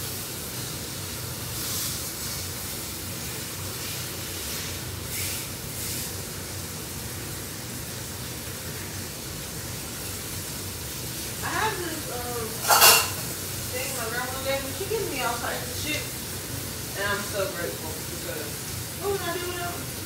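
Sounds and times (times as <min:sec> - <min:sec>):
steak sizzling in a pan: 0:00.0 - 0:20.0.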